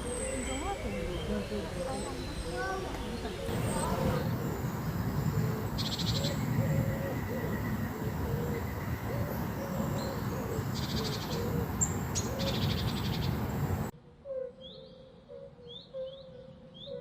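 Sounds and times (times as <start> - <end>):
birds chirping: 0.0 - 13.9
steady noise bed: 0.0 - 13.9.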